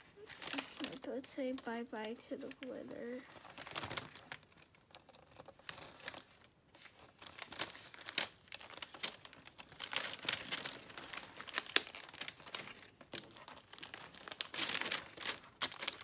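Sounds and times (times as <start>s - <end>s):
slime crackling and popping: 0.3s - 6.5s, 7.1s - 16.0s.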